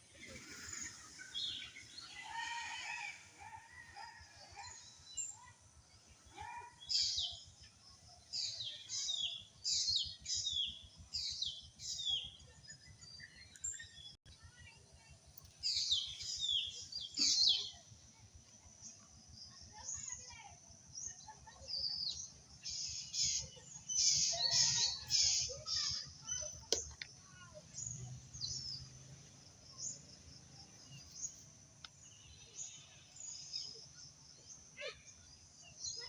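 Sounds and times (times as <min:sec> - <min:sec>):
birds chirping: 0:00.0 - 0:05.5, 0:06.2 - 0:17.8, 0:18.6 - 0:36.0.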